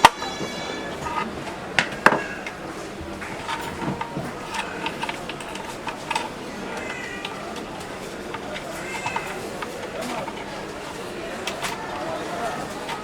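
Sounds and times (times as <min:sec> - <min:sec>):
faint voices: 0:00.0 - 0:13.0
metal lock parts clicking: 0:00.0 - 0:13.0.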